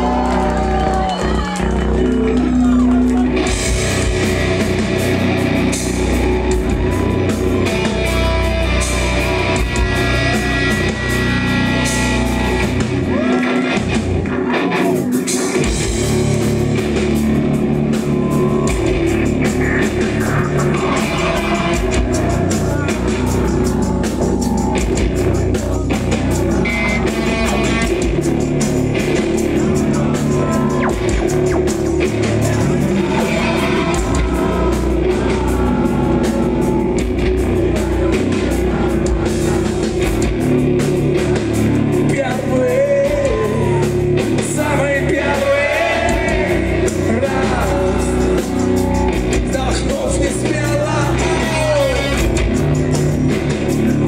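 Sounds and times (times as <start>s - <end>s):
distorted guitars: 0.0s - 54.0s
steady drum beat: 3.2s - 54.0s.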